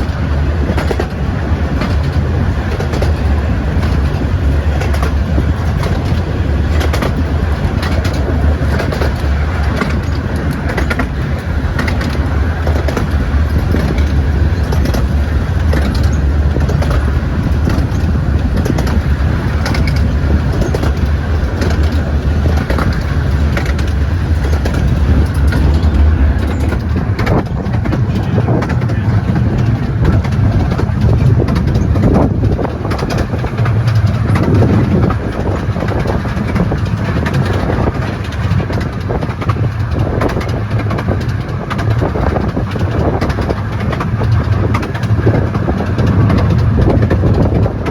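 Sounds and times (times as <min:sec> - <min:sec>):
train rumbling along track: 0:00.0 - 0:47.9
wheels clicking over rails: 0:00.0 - 0:47.9.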